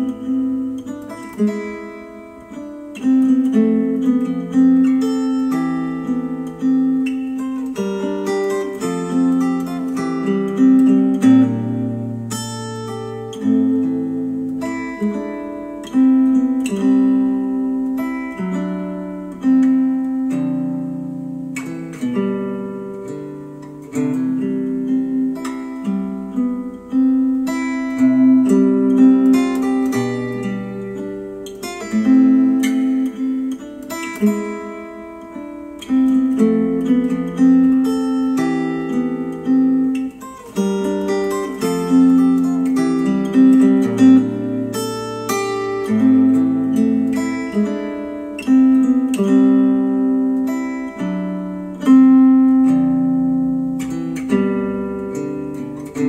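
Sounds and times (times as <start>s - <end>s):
acoustic guitar music: 0.0s - 56.0s.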